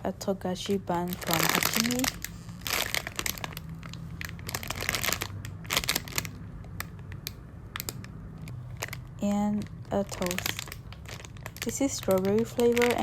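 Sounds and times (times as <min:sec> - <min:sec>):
plastic packaging crinkling: 0:00.9 - 0:13.0.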